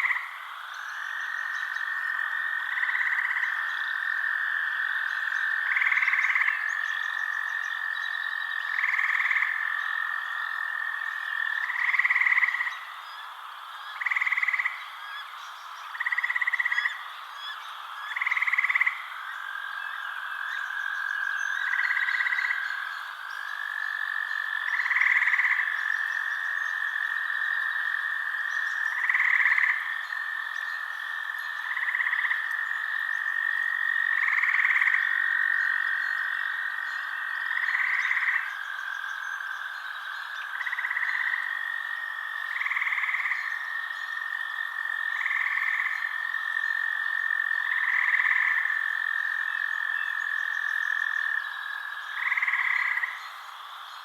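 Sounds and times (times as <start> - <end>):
frog call: 0.0 - 54.0
frogs trilling drone: 0.0 - 54.0.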